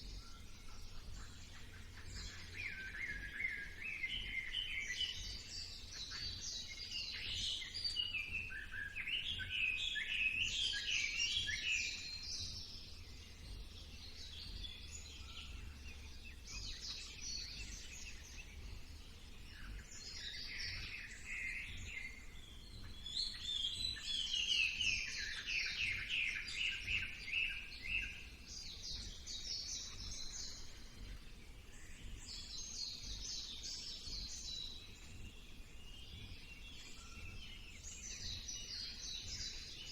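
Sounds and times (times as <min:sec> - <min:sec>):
faint low rumble: 0:00.0 - 0:39.9
songbirds trilling: 0:00.0 - 0:39.9.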